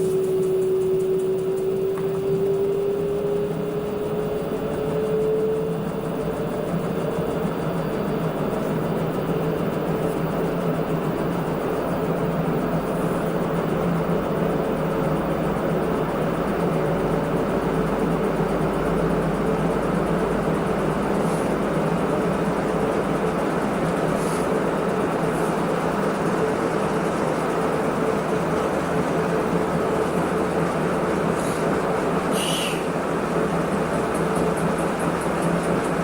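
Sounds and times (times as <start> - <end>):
washing machine running: 0.0 - 36.0.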